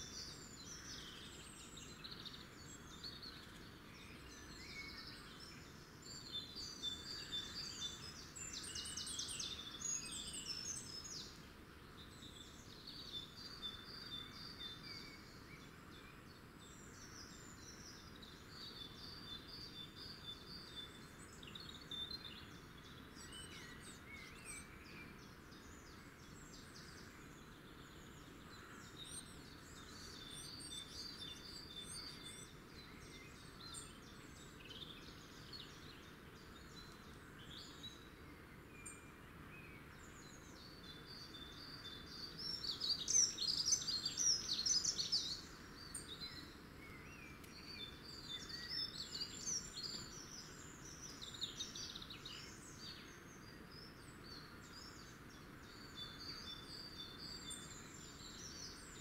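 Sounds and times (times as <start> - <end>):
faint outdoor hiss: 0.0 - 59.0
small birds chirping: 0.0 - 59.0.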